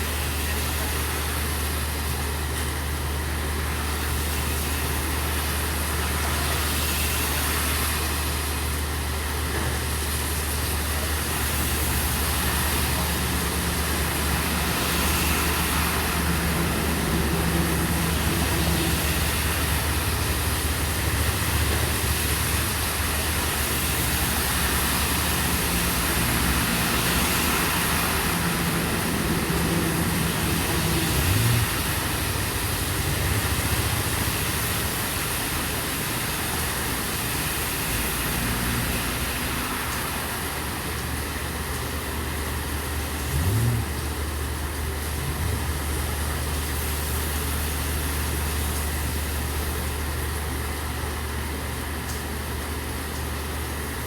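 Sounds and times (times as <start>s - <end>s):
rain falling: 0.0s - 54.0s
vehicle engine idling: 0.1s - 37.9s, 40.4s - 54.0s.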